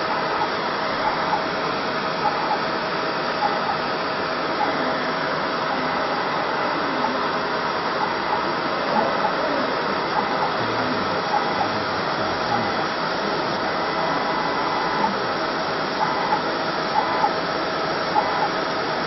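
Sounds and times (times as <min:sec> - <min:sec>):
cooling fans whirring hum: 0:00.0 - 0:19.0.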